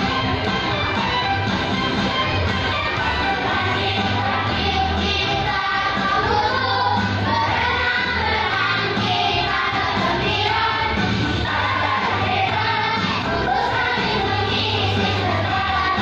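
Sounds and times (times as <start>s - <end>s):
instrumental accompaniment: 0.0s - 16.0s
children singing as choir: 3.0s - 16.0s.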